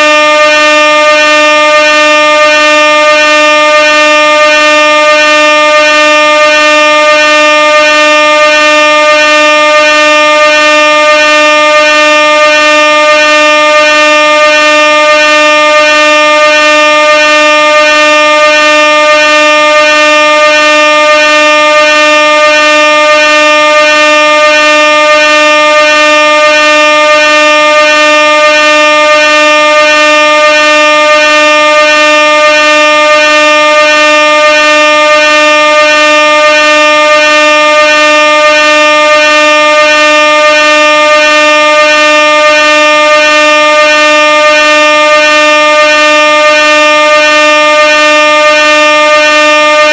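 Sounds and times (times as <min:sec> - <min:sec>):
air horn blaring: 0:00.0 - 0:49.9.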